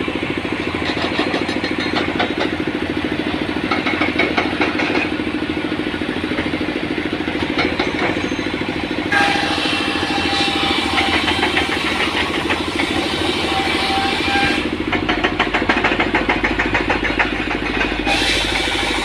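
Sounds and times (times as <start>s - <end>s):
engine running: 0.0s - 19.0s
fast engine clatter: 0.0s - 19.0s.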